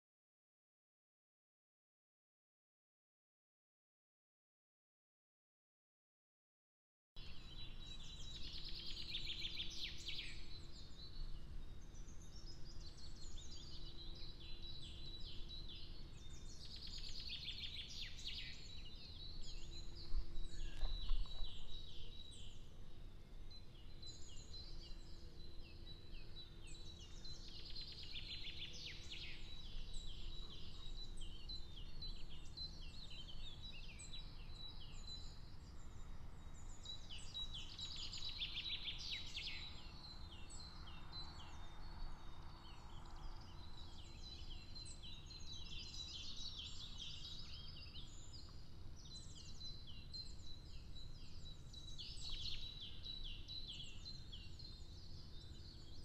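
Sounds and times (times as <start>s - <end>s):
wild birds singing: 7.2s - 56.0s.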